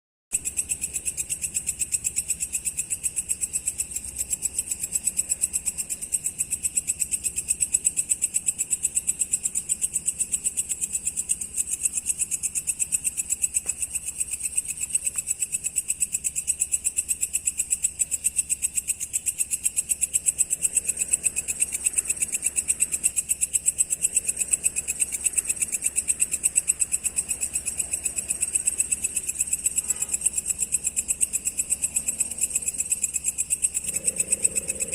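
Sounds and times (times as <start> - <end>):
crickets chirping: 0.4 - 34.9.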